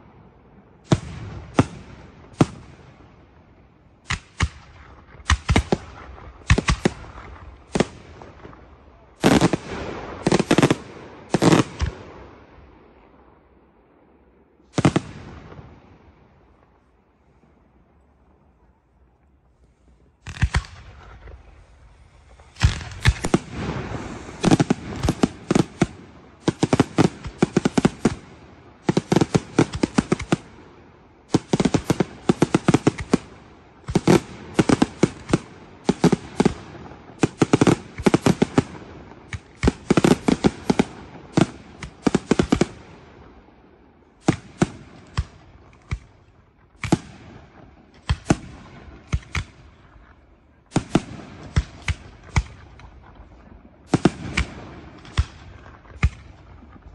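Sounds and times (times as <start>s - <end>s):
fireworks exploding: 0.0s - 3.4s, 4.0s - 13.2s, 14.3s - 17.0s, 20.1s - 56.9s.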